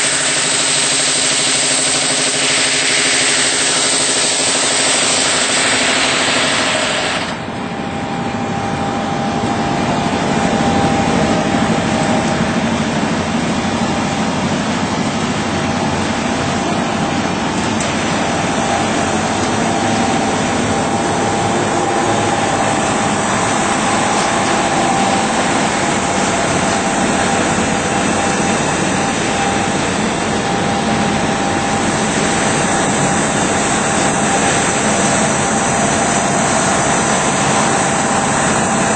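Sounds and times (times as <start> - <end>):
machine running with faint whine: 0.0 - 38.9.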